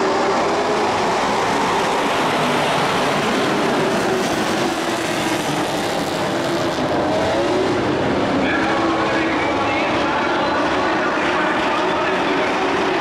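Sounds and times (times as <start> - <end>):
racing trucks engines droning: 0.0 - 13.0.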